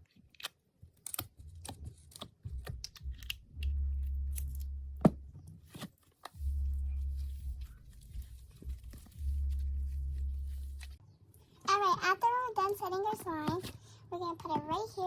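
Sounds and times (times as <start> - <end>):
low steady hum: 0.3 - 15.0.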